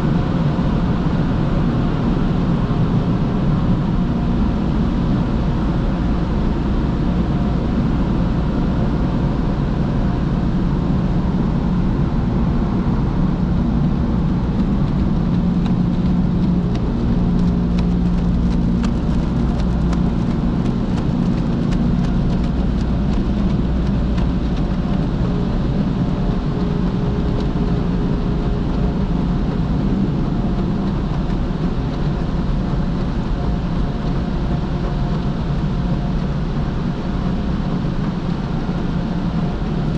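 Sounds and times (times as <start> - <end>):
car wash machinery humming: 0.0 - 39.9.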